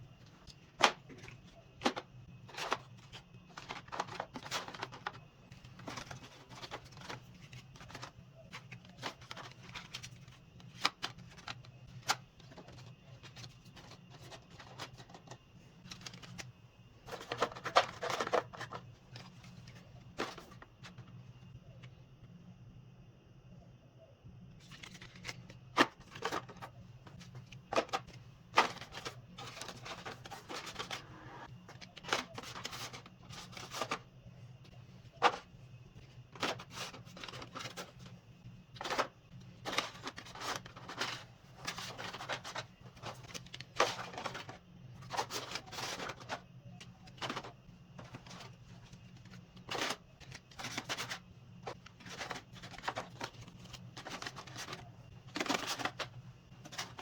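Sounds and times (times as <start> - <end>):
packaged items handled on shelves: 0.0 - 22.6, 24.0 - 57.0.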